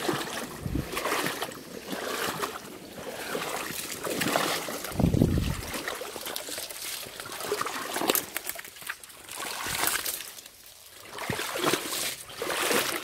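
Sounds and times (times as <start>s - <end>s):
river water trickling and splashing: 0.0s - 13.0s.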